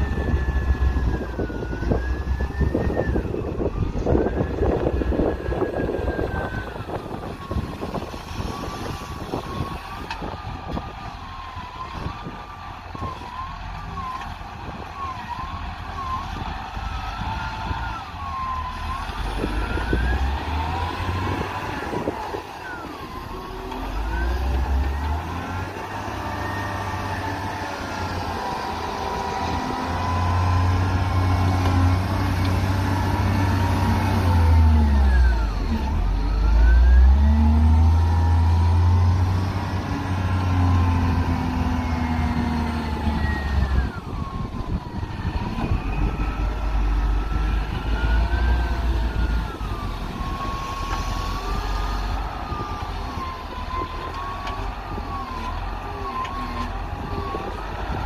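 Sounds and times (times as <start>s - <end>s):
engine whine: 0.0s - 58.0s
wheel loader engine revving: 0.0s - 58.0s.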